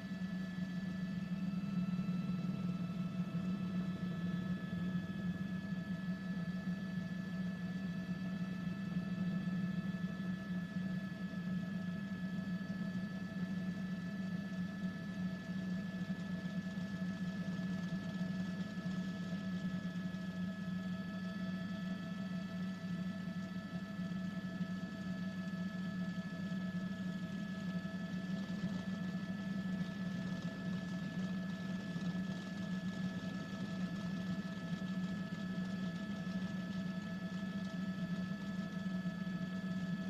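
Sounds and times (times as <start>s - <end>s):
helicopter cabin drone: 0.0s - 40.0s.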